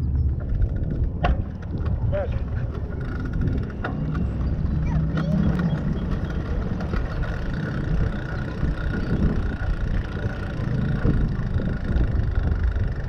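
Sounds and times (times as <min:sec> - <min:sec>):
bicycle ride noise: 0:00.0 - 0:13.0
wind rumbling on microphone: 0:00.0 - 0:13.0
small clicks and rattles: 0:00.1 - 0:13.0.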